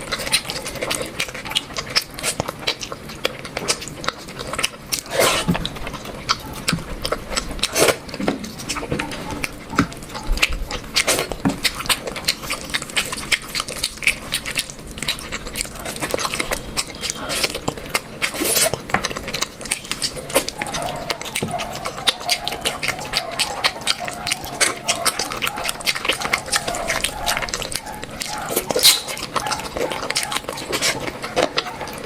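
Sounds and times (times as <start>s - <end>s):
wet chewing and smacking: 0.0s - 32.0s.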